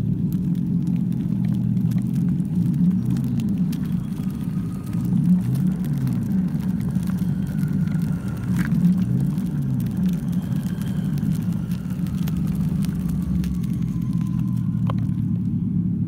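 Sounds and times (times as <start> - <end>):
toy truck rumbling on asphalt: 0.0 - 16.0.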